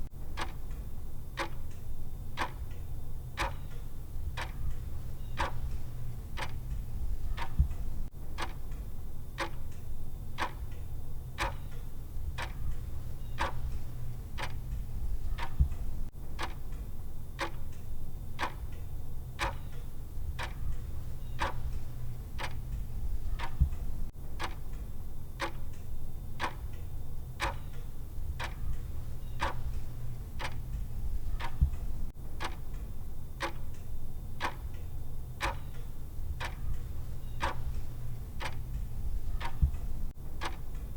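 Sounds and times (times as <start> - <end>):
clock ticking: 0.0 - 8.8, 9.4 - 9.8, 10.4 - 10.8, 11.4 - 16.8, 17.4 - 17.8, 18.4 - 18.8, 19.4 - 24.8, 25.4 - 40.9
low steady hum: 0.0 - 40.9.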